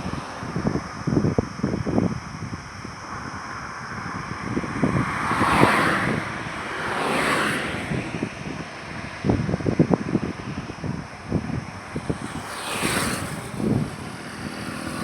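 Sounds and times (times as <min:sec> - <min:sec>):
vehicles passing on highway: 0:00.0 - 0:15.0
wind buffeting microphone: 0:00.0 - 0:15.0.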